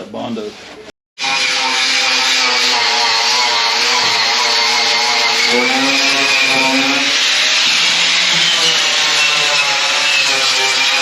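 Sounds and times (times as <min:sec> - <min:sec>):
power grinder grinding metal: 0:01.2 - 0:11.0.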